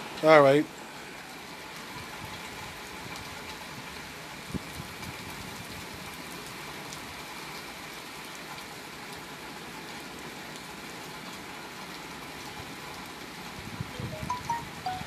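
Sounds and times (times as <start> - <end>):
hard rain falling: 0.0 - 15.0.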